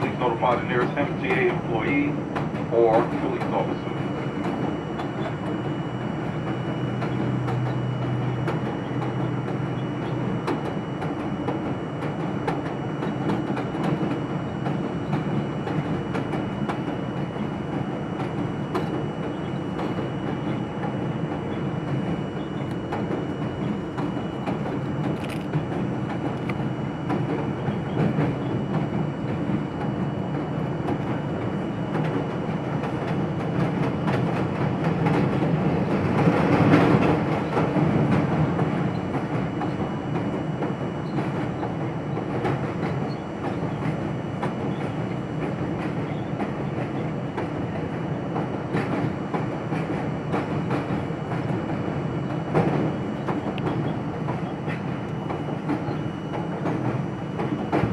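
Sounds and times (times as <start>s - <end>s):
subway train running on track: 0.0s - 57.9s
wheels clicking over rail joints: 0.0s - 57.9s.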